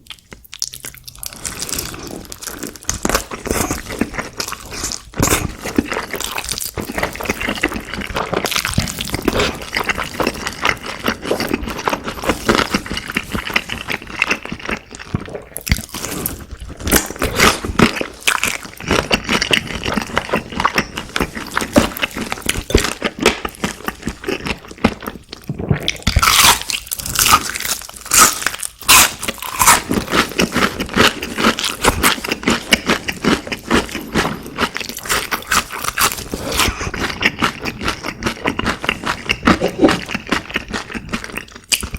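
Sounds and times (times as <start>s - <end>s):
crunching and chewing food: 0.0s - 41.9s.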